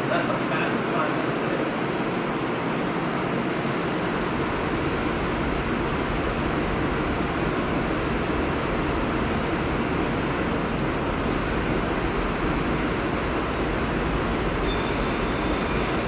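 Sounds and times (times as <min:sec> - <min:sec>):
subway train rumbling in tunnel: 0:00.0 - 0:16.0.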